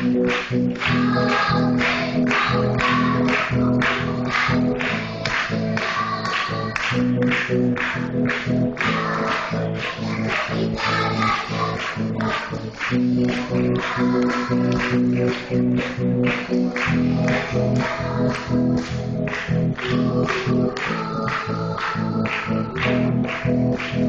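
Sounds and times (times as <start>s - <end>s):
children's choir singing: 0.0s - 15.6s, 16.3s - 24.0s
instrumental accompaniment: 0.0s - 24.0s.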